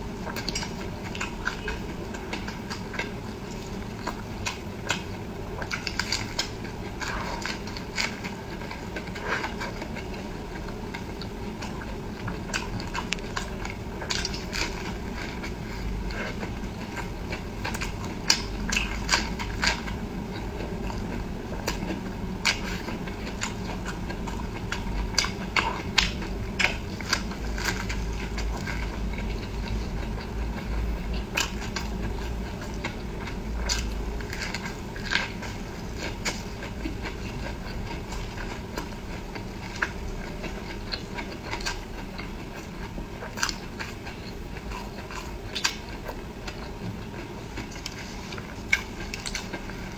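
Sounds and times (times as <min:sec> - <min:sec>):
chewing and biting food: 0:00.0 - 0:49.9
low background hum: 0:00.0 - 0:49.9.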